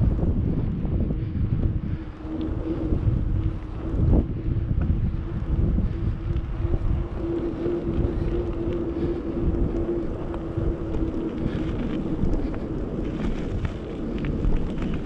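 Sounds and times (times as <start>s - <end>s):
wind buffeting microphone: 0.0s - 15.0s
tyres rolling on tarmac: 2.4s - 15.0s.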